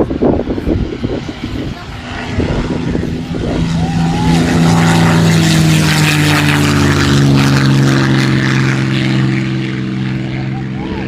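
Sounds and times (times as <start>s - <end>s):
propeller aircraft flying past: 0.0s - 11.0s.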